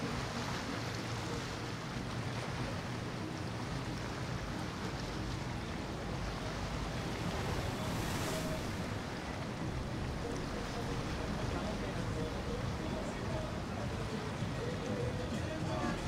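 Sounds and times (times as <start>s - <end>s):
low rumble of boat motor: 0.0s - 16.0s
wind: 0.0s - 16.0s.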